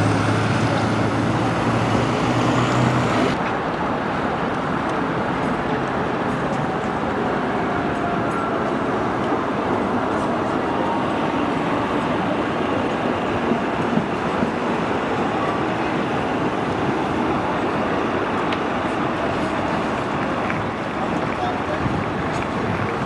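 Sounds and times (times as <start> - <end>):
street traffic: 0.0 - 23.0
tram rolling past: 0.0 - 23.0.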